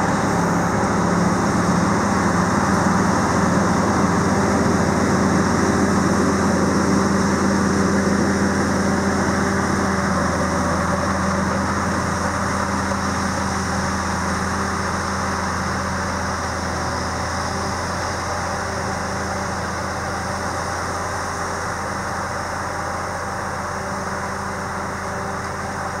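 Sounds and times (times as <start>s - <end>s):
machine engine droning: 0.0s - 26.0s.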